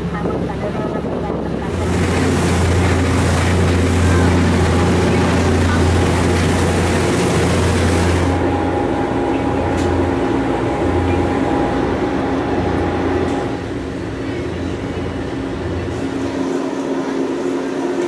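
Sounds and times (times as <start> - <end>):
ship engine hum: 0.0 - 18.0
wind and water rushing: 0.0 - 18.0.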